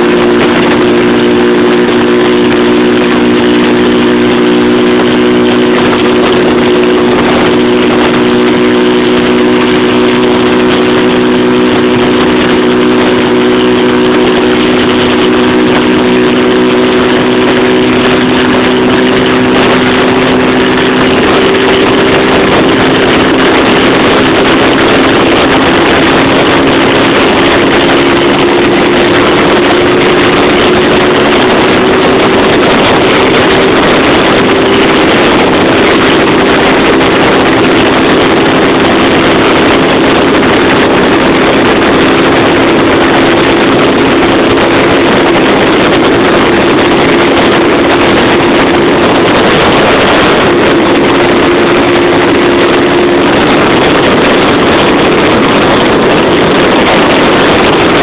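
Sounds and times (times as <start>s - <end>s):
motorcycle engine running hard: 0.0s - 58.0s
wind rushing: 0.0s - 58.0s.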